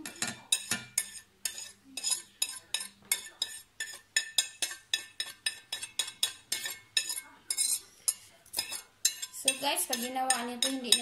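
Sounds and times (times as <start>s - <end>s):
whisk tapping on ceramic plate: 0.0s - 11.0s.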